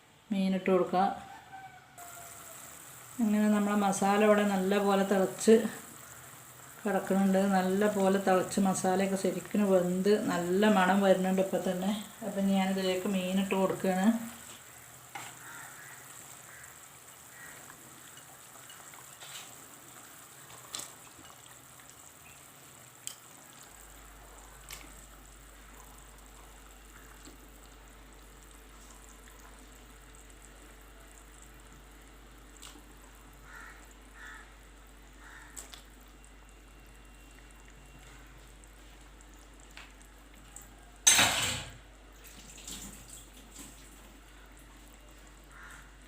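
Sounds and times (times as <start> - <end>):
curry simmering in a pan: 1.2 - 41.1, 41.8 - 46.0.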